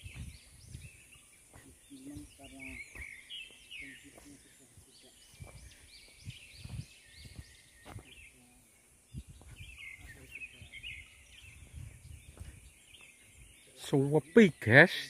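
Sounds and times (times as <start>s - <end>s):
footsteps on paved path: 0.0s - 13.9s
small birds chirping: 0.0s - 15.0s.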